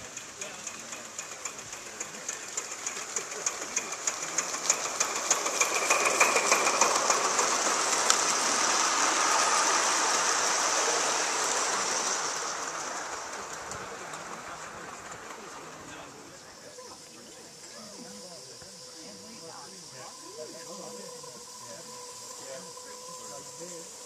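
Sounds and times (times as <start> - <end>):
model steam locomotive chuffing: 0.0 - 24.0
wagon wheels rolling on rail: 0.0 - 24.0.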